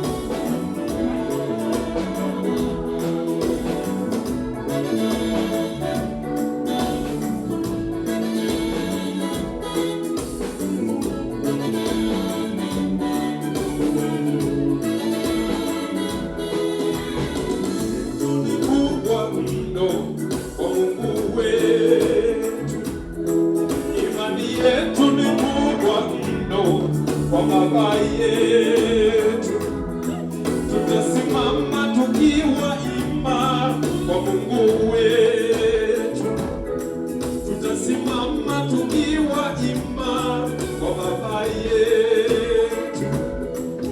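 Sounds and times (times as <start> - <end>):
choir singing gospel: 0.0 - 43.9
instrumental backing with beat: 0.0 - 43.9.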